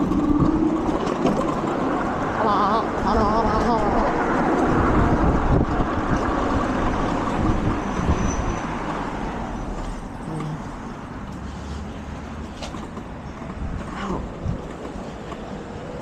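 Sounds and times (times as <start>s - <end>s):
motor vehicle rumble: 0.0s - 16.0s.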